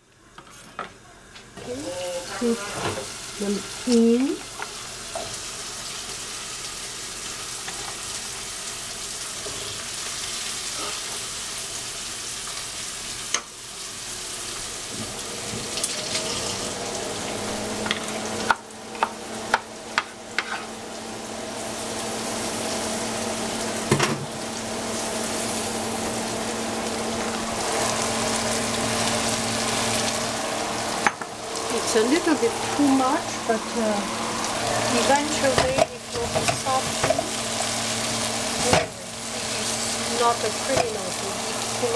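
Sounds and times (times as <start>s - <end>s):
vegetables sizzling in a pan: 1.5s - 41.9s.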